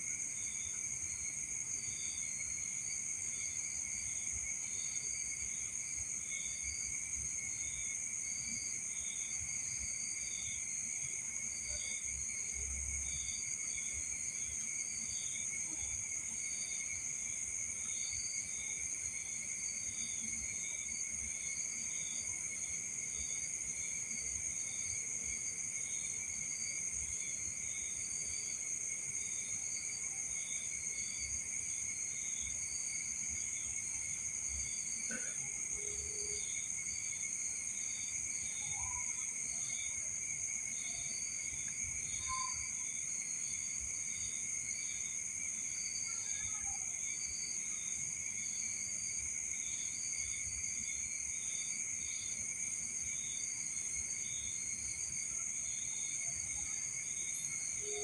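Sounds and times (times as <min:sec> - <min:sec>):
insect chirping: 0:00.1 - 0:58.0
crickets trilling: 0:00.2 - 0:58.0.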